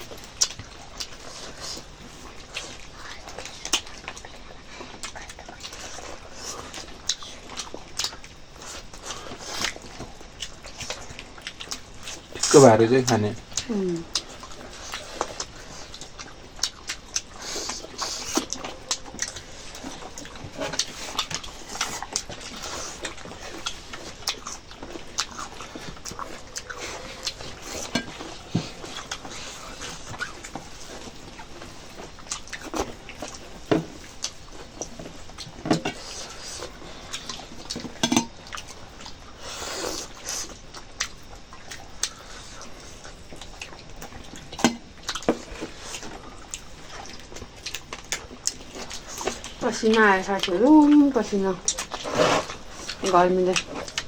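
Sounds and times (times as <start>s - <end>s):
wet chewing and lip-smacking: 0.0s - 54.0s.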